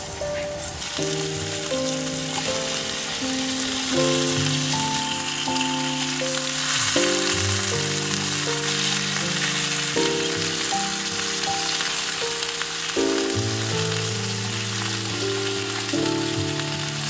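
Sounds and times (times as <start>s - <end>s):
background music of held notes: 0.0s - 17.0s
meat sizzling in a pan: 0.0s - 17.0s.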